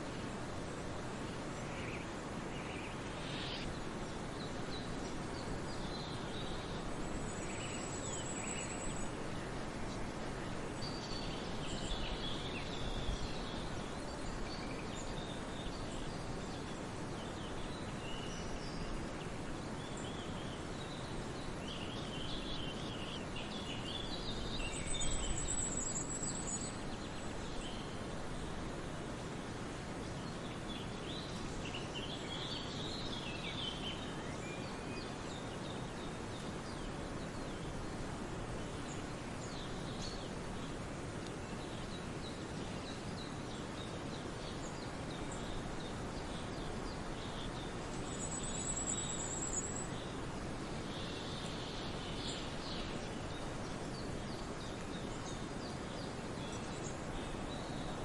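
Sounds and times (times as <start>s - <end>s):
background hiss: 0.0s - 58.0s
songbird calls and chirps: 0.0s - 58.0s.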